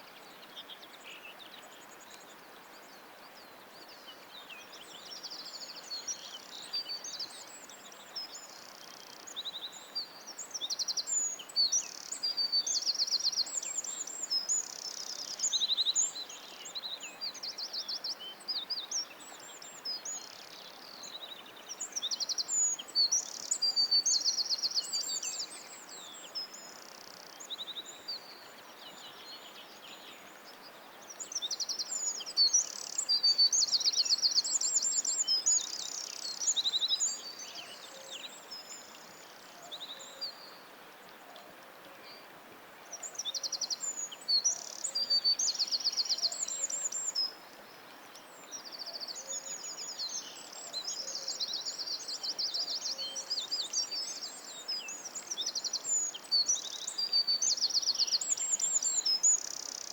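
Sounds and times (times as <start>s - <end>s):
faint steady hiss: 0.0s - 59.9s
songbirds trilling and chirping: 0.0s - 59.9s.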